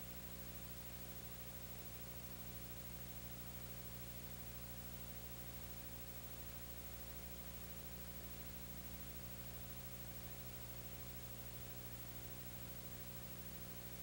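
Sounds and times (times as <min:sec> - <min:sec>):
low electrical mains hum: 0:00.0 - 0:14.0.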